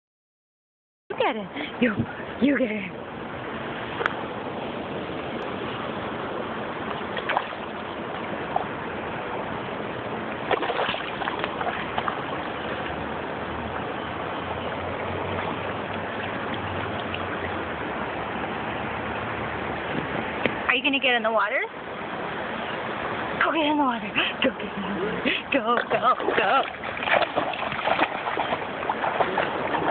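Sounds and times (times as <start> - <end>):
flowing river water: 1.1 - 29.9.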